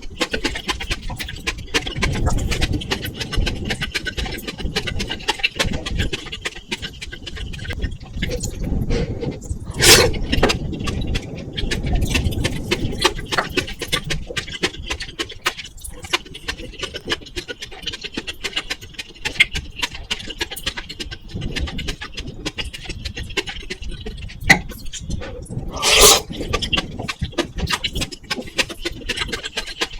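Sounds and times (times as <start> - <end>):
wet chewing and mouth clicks: 0.1 - 29.9.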